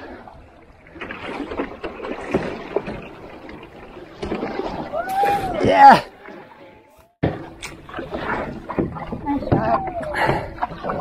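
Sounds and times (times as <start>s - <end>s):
paddle strokes splashing in water: 0.0s - 11.0s.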